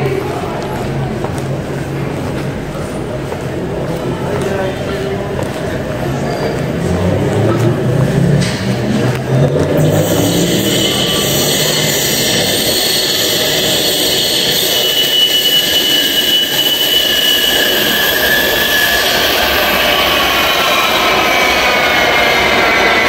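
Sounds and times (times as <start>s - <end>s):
tram wheels rushing on rail: 0.0s - 23.0s.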